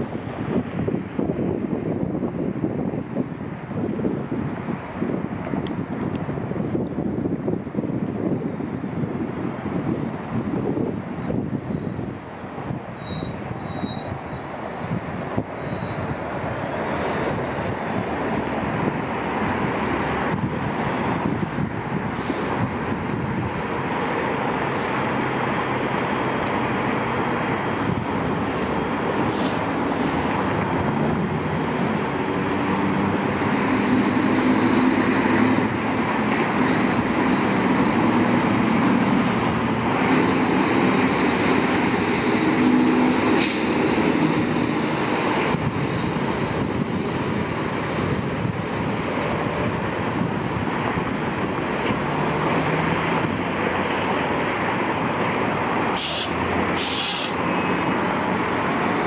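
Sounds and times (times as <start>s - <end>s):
heavy vehicle engine drone: 0.0s - 59.0s
passing vehicles rushing: 0.0s - 59.0s.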